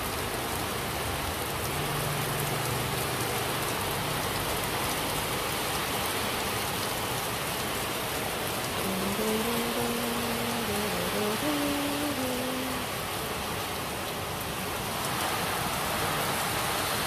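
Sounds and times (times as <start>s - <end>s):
heavy rain on vehicle roof: 0.0s - 17.0s.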